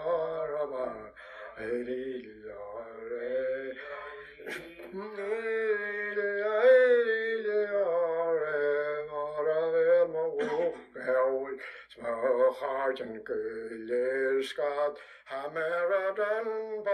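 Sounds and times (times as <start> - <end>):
man singing unaccompanied: 0.0 - 16.9.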